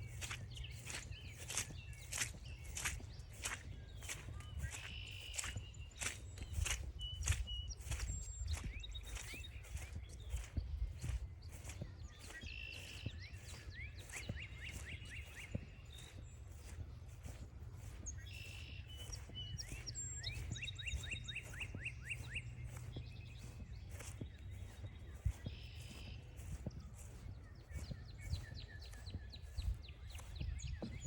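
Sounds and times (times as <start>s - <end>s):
footsteps on trail: 0.0s - 31.0s
songbird singing: 0.0s - 31.0s.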